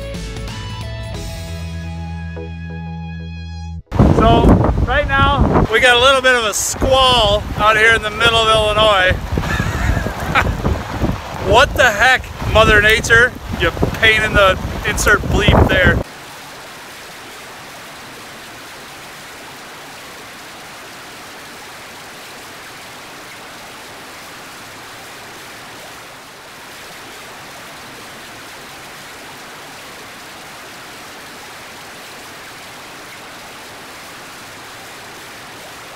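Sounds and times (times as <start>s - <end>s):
running water splashing: 3.9s - 35.9s.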